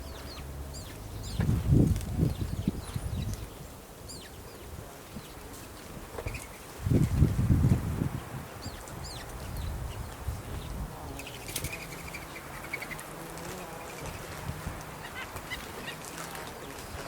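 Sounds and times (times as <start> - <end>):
birds chirping: 0.0 - 7.3, 8.0 - 17.0.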